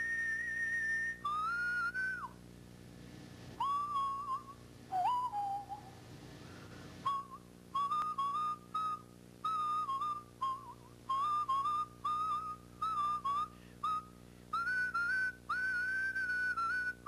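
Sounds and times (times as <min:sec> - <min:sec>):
person whistling a tune: 0:00.0 - 0:02.4, 0:03.6 - 0:06.0, 0:07.0 - 0:17.0
steady low hum: 0:00.0 - 0:17.0.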